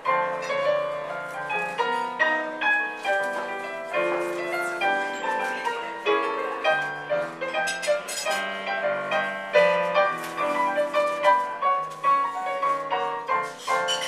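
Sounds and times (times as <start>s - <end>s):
piano melody over chords: 0.0s - 14.0s.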